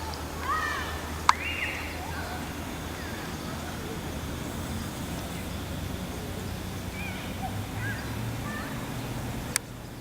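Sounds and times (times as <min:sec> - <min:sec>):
bird chirps: 0:00.0 - 0:09.2.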